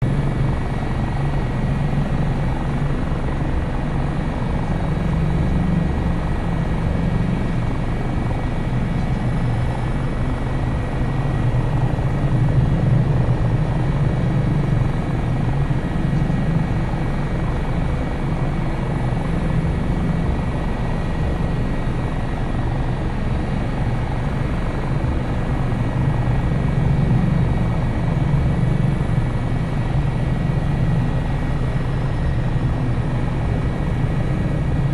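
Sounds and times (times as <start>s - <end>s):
helicopter rotor and engines drone: 0.0s - 34.9s.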